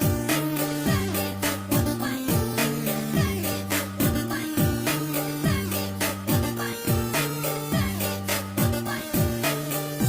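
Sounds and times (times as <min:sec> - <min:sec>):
music with sliding bass: 0:00.0 - 0:10.0.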